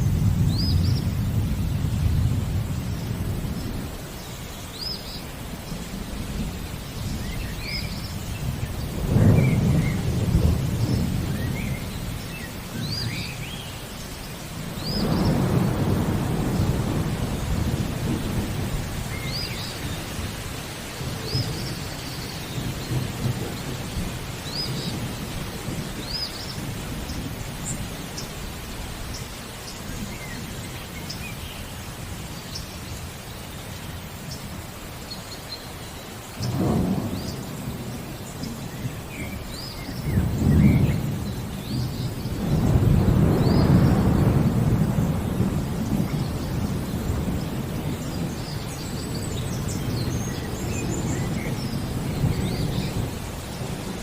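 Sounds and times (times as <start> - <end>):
thunder rumbling: 0.0 - 4.2, 5.2 - 29.2, 36.4 - 54.0
steady rain: 0.0 - 54.0.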